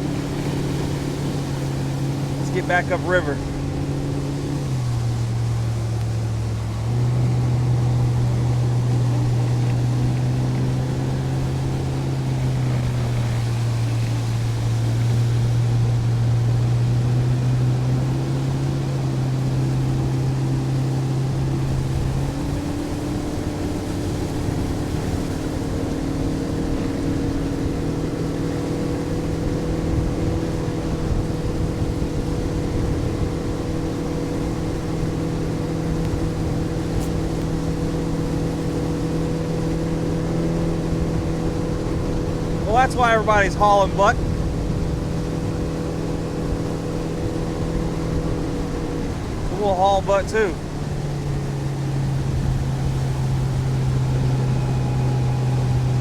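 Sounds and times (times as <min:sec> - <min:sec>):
motorboat engine running: 0:00.0 - 0:56.0
water noise: 0:00.0 - 0:56.0.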